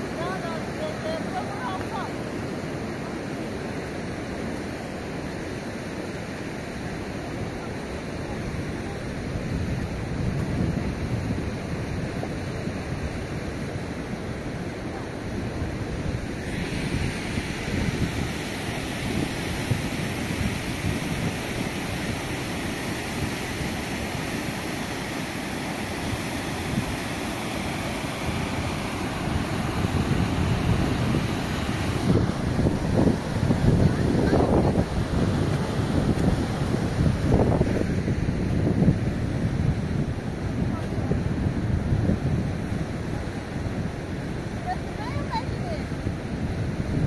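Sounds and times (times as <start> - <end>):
floodwater rushing: 0.0 - 47.0
wind buffeting microphone: 7.5 - 47.0.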